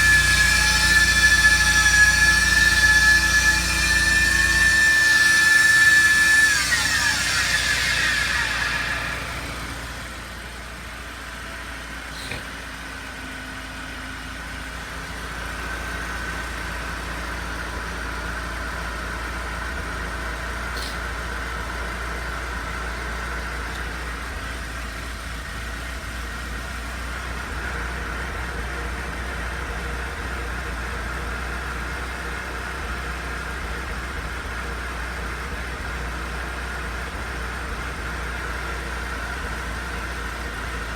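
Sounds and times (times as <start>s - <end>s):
air pump whining: 0.0s - 12.8s, 14.8s - 40.9s
car engine idling: 0.0s - 40.9s.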